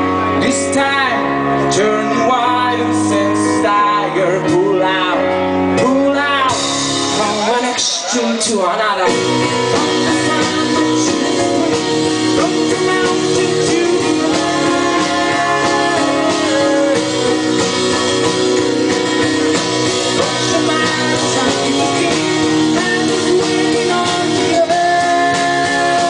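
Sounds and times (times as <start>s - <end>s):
live rock band playing: 0.0s - 26.0s
man singing: 0.2s - 26.0s.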